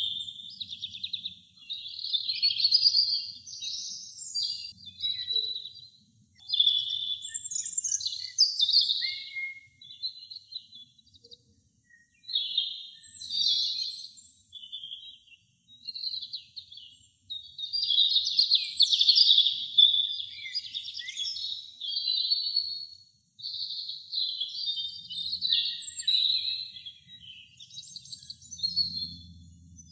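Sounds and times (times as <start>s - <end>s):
robin singing: 0.0s - 29.9s.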